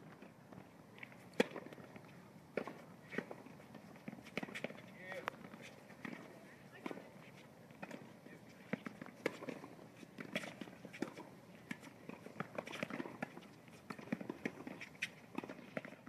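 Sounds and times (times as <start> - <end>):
rackets striking tennis ball: 0.1 - 16.0.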